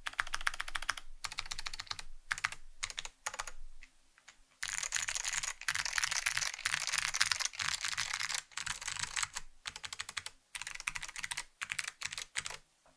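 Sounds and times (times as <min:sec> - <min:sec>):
typing on clicky keyboard: 0:00.0 - 0:03.6, 0:04.6 - 0:12.6.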